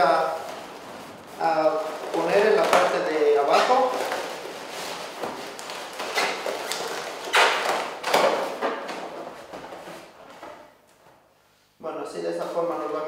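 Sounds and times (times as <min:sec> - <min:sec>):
balloons rubbing and bumping: 0:00.0 - 0:10.8.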